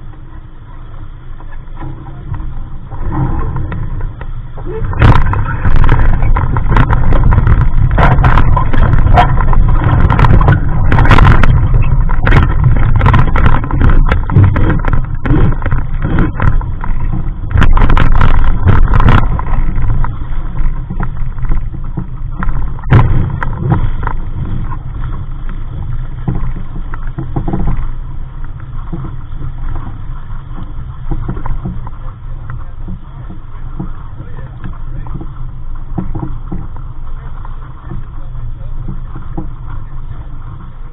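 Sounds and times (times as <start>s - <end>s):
water slapping against boat hull: 0.0s - 40.9s
wind rumble on microphone: 0.0s - 40.9s
sharp splashes and knocks: 1.4s - 40.9s.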